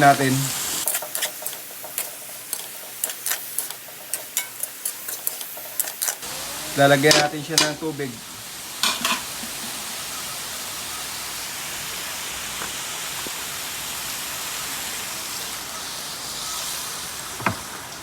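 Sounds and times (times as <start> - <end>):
hot pan hissing: 0.0 - 18.0.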